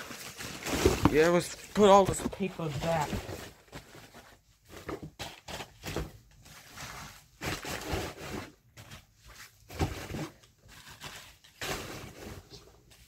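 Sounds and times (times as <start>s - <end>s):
packing paper rustling: 0.0s - 13.0s.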